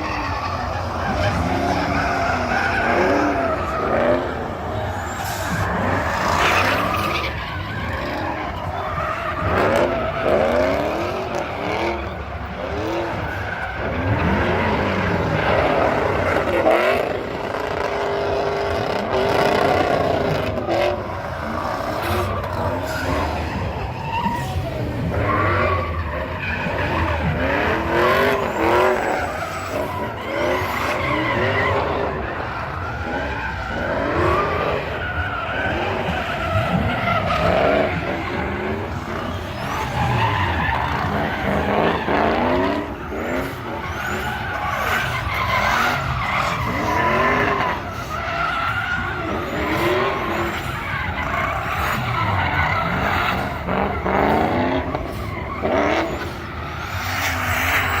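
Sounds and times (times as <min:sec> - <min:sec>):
car engine revving: 0:00.0 - 0:58.0
tyres squealing: 0:00.0 - 0:58.0.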